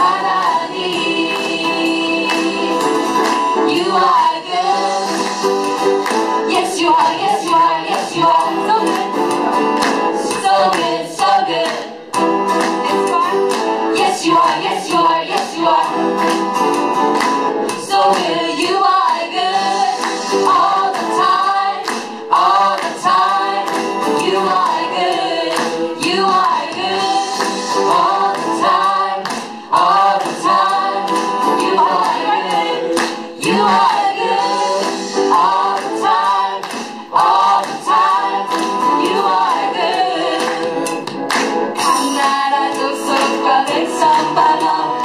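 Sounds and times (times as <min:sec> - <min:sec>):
group singing through microphones: 0:00.0 - 0:45.0.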